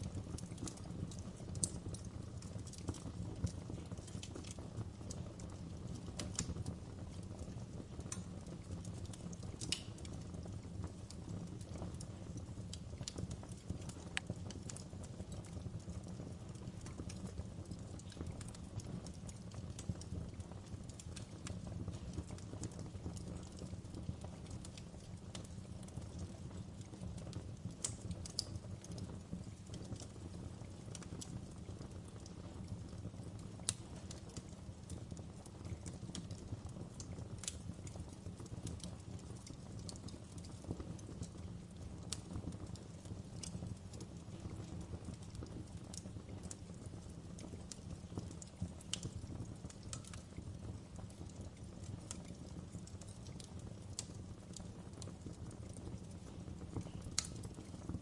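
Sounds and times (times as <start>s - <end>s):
fire popping and snapping: 0.0s - 58.0s
low rumble of flames: 0.0s - 58.0s.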